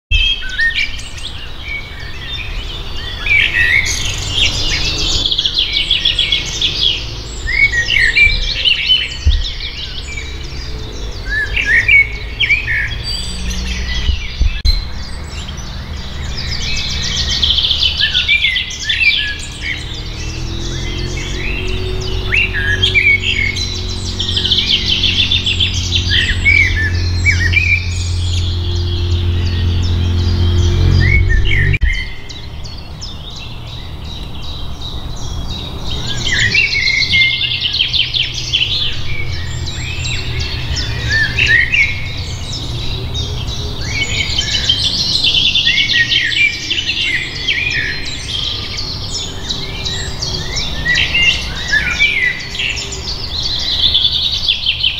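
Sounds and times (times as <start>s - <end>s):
songbirds singing: 0.1s - 54.9s.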